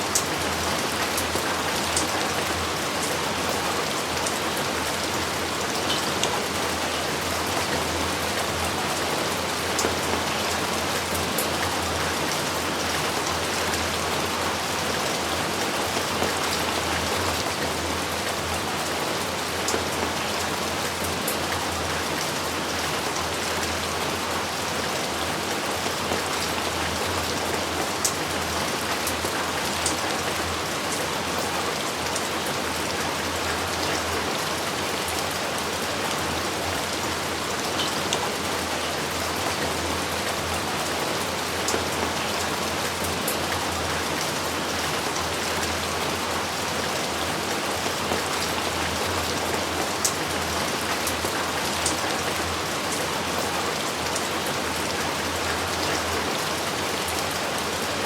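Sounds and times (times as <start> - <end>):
heavy rainfall: 0.0 - 58.0.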